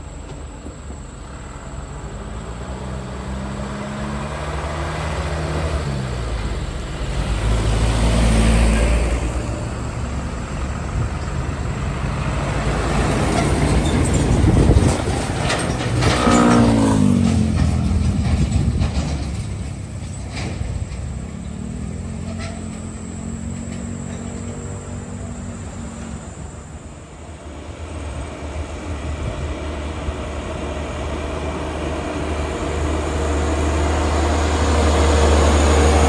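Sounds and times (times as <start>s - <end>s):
diesel trucks passing: 0.0s - 36.0s.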